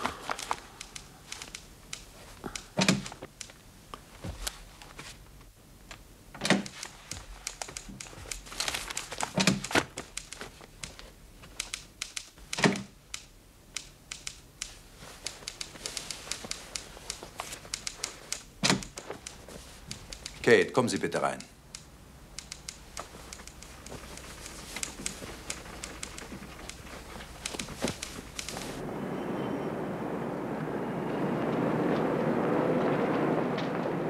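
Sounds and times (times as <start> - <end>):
light clicking and rustling: 0.0 - 28.8.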